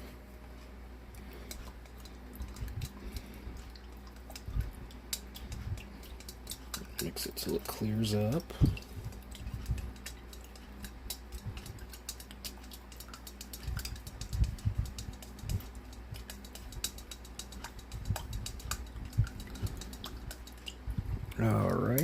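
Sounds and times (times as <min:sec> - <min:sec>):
stirrer clicking against glass: 0:04.0 - 0:22.0.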